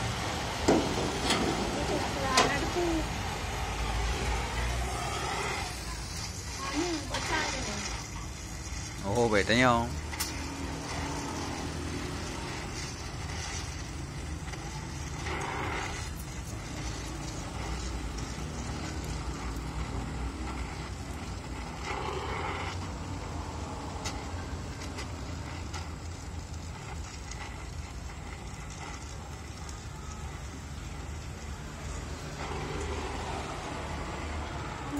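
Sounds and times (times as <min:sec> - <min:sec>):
welding torch flame hissing: 0:00.0 - 0:34.9.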